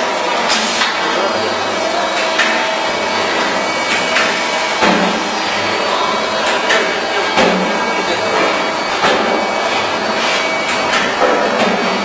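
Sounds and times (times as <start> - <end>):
cutting machine running: 0.0 - 12.0.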